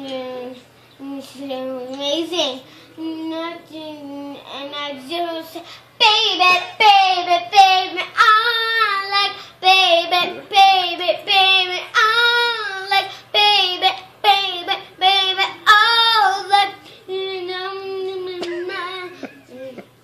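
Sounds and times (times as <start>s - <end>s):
girl singing unaccompanied: 0.0s - 20.0s.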